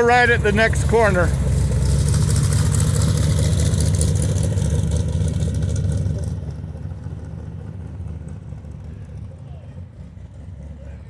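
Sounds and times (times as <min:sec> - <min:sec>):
car engine rumbling past: 0:00.0 - 0:11.0.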